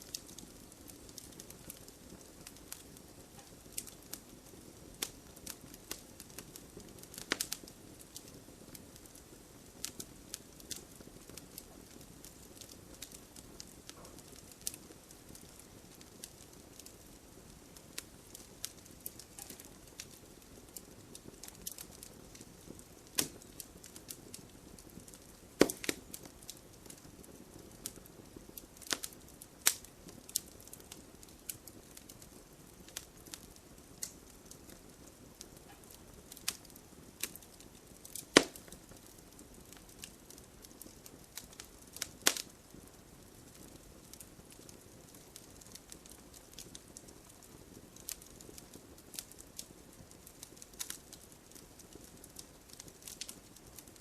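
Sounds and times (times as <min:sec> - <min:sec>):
campfire crackling and popping: 0:00.0 - 0:54.0
low steady hiss: 0:00.0 - 0:54.0.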